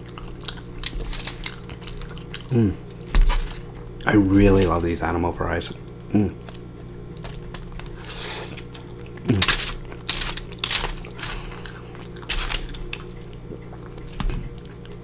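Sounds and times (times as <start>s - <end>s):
chewing and mouth smacking: 0.0s - 4.7s, 5.9s - 15.0s
low hum: 0.0s - 15.0s.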